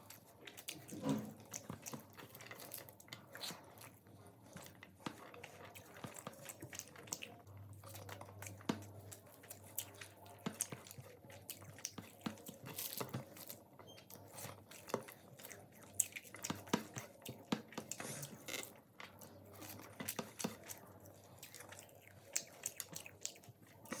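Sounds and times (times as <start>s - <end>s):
person chewing and biting food: 4.6s - 24.0s.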